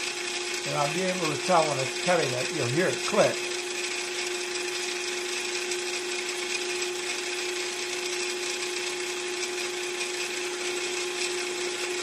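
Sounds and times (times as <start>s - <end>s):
hand drill humming: 0.0s - 12.0s.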